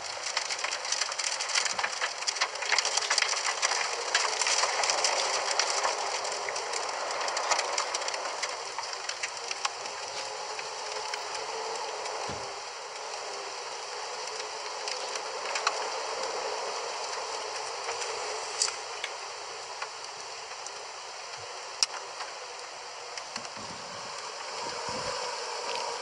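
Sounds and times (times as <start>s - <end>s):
rain hiss: 0.0s - 26.0s
raindrops ticking close by: 0.0s - 26.0s.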